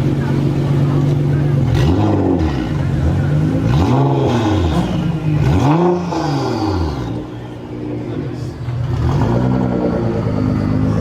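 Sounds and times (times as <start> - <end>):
car engine revving from idle: 0.0 - 11.0.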